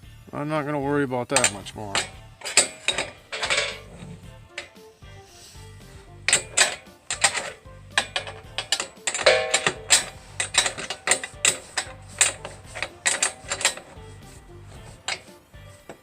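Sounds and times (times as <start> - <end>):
metallic hand tool clicks: 1.4 - 4.8, 6.3 - 16.0.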